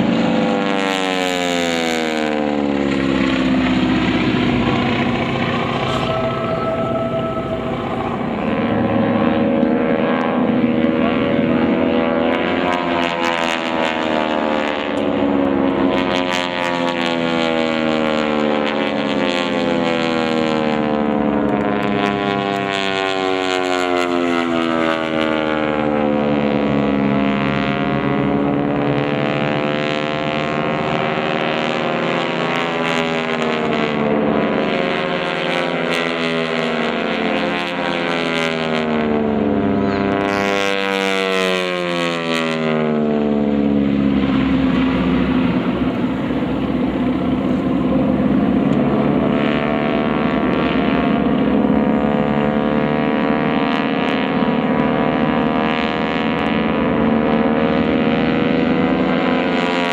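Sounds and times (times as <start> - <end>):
propeller aircraft engines overhead: 0.0 - 59.9.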